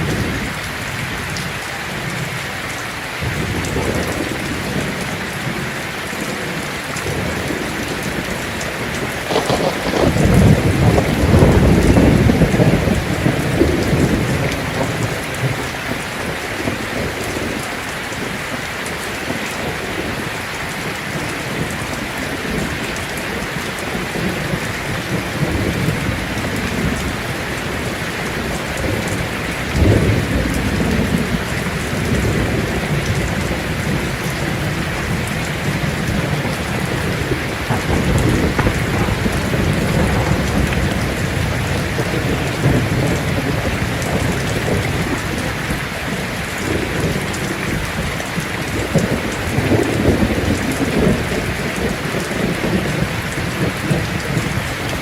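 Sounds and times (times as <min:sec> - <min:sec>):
heavy rain on a tin roof: 0:00.0 - 0:55.0
thunder rumbling: 0:03.2 - 0:55.0.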